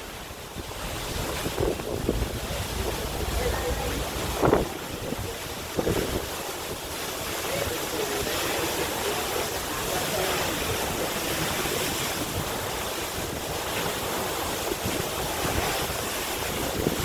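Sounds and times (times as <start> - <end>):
waterfall rushing: 0.0 - 17.0
wind buffeting microphone: 0.1 - 17.0.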